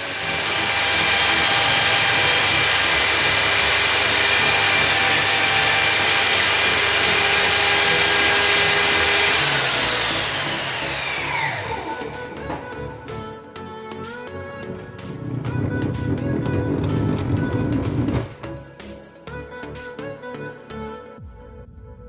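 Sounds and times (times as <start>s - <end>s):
table saw whining: 0.0s - 13.9s, 14.6s - 18.6s.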